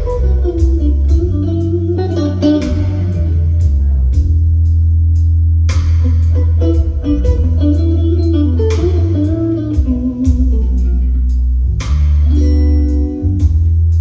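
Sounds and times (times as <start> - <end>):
guitar music over loudspeakers: 0.0 - 4.4, 5.9 - 14.0
cymbal ticking: 0.0 - 14.0
deep bass line: 0.0 - 14.0.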